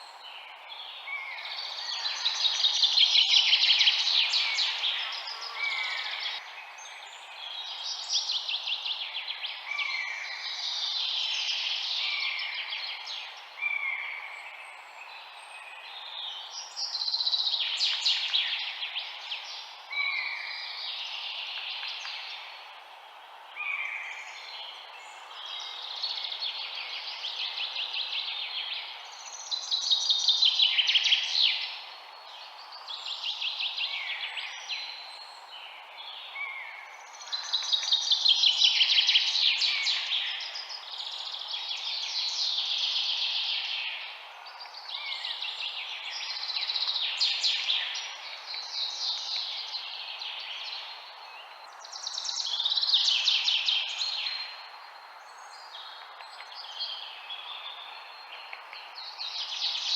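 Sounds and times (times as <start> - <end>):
songbirds trilling and chirping: 0.0 - 59.9
steady background hiss: 0.0 - 59.9.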